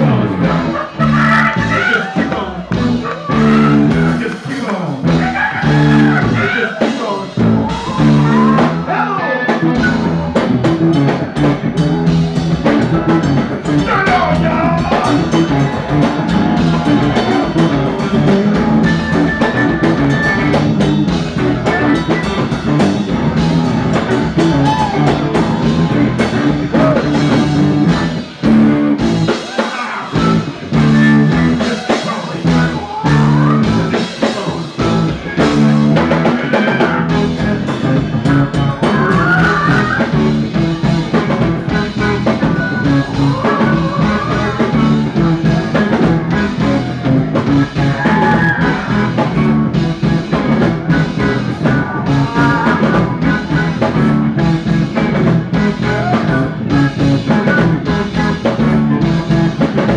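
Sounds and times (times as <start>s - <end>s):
person singing: 0.0s - 11.9s, 12.6s - 20.6s, 21.4s - 28.3s, 29.3s - 59.9s
bass guitar: 0.0s - 59.9s
drum kit: 0.0s - 59.9s
electric guitar: 0.0s - 59.9s.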